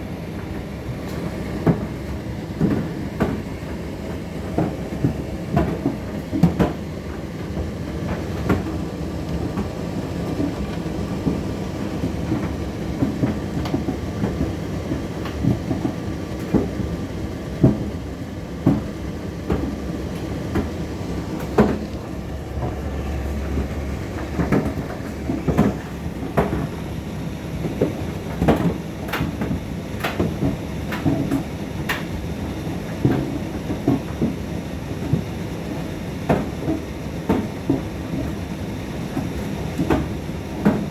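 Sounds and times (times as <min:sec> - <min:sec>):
tumble dryer motor and fan: 0:00.0 - 0:40.9
knocks and clicks of tumbling load: 0:00.2 - 0:40.9.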